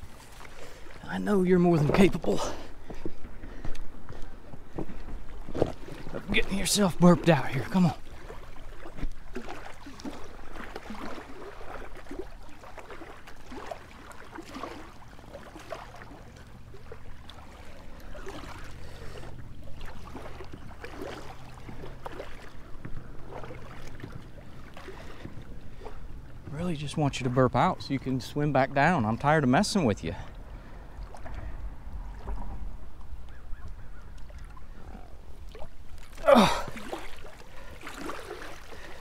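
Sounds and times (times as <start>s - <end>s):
river water splashing: 0.0s - 39.0s.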